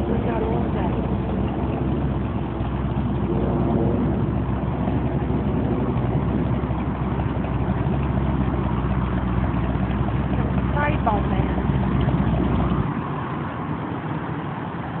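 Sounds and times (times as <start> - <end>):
boat engine running at low revs: 0.0 - 15.0.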